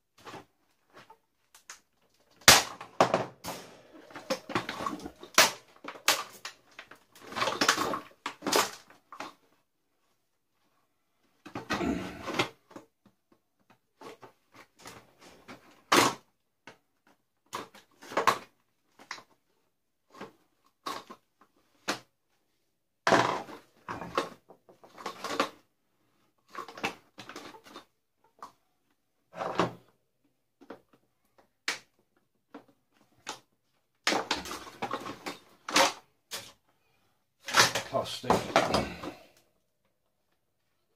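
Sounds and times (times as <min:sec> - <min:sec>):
plastic parts knocking and rattling: 0:00.2 - 0:10.1, 0:11.4 - 0:22.1, 0:23.0 - 0:25.6, 0:26.5 - 0:28.6, 0:29.3 - 0:36.6, 0:37.4 - 0:39.4.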